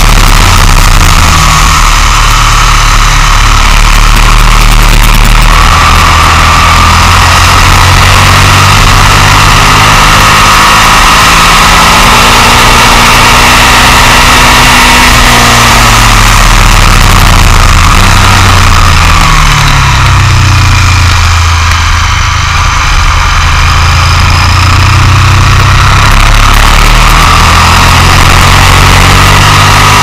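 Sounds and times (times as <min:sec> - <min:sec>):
motorcycle engine running: 0:00.0 - 0:30.0
wind and road rush: 0:00.0 - 0:30.0.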